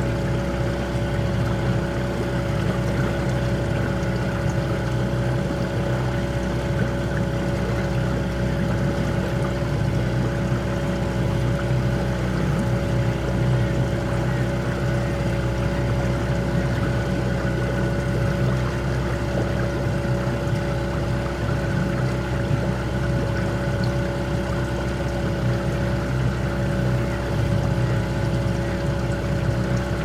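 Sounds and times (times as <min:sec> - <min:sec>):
outboard motor droning: 0:00.0 - 0:30.0.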